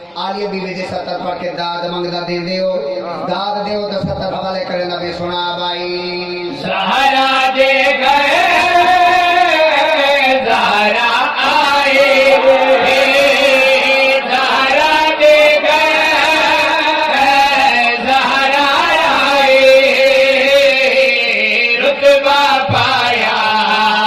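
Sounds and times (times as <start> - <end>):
man chanting devotional ode: 0.0 - 24.0.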